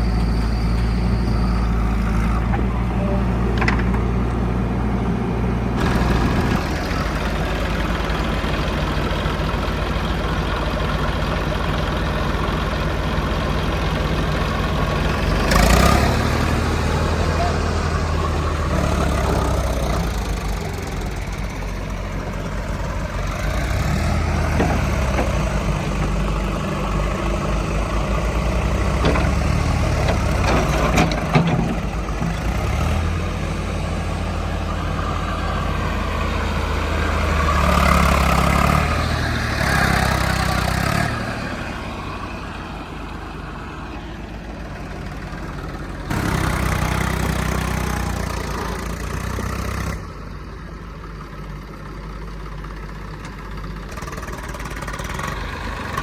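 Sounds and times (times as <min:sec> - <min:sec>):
diesel machinery engine revving: 0:00.0 - 0:56.0.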